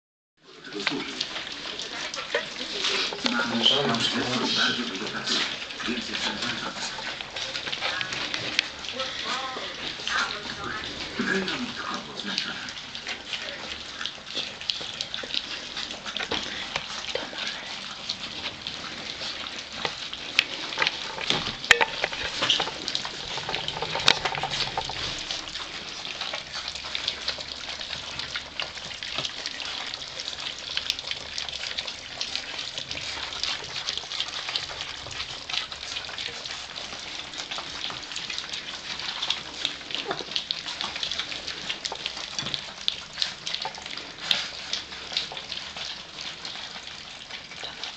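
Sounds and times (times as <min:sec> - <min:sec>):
puppies eating wet smacks: 0:00.4 - 0:47.9.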